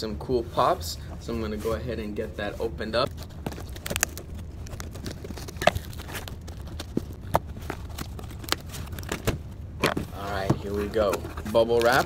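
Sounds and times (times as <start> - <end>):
cardboard box being handled: 1.5 - 12.0.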